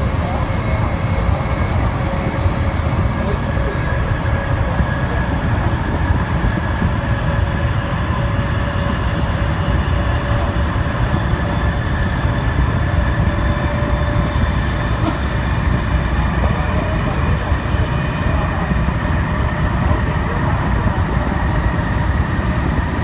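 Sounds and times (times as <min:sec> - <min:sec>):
train whining tones: 0:00.0 - 0:23.0
wheels rumbling on rails: 0:00.0 - 0:23.0.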